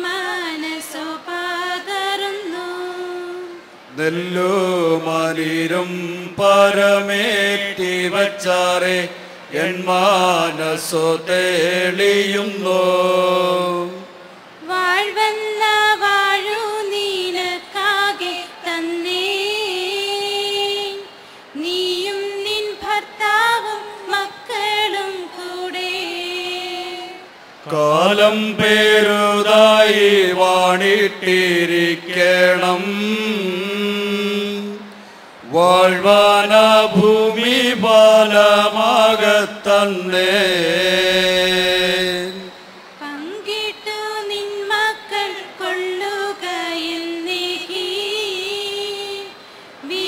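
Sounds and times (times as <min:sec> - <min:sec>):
group singing unaccompanied chant: 0:00.0 - 0:21.0, 0:21.6 - 0:50.0.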